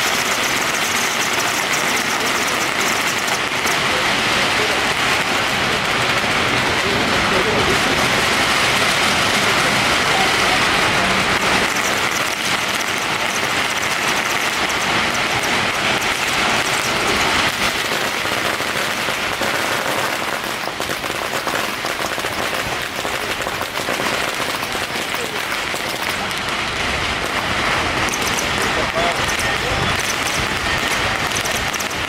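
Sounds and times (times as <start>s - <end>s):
firecrackers crackling: 0.0s - 32.0s.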